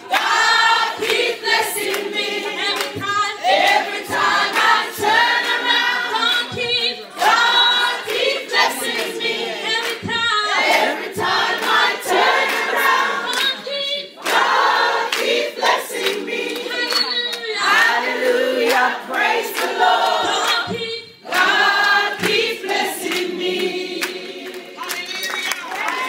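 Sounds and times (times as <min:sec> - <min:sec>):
women singing together: 0:00.0 - 0:25.1.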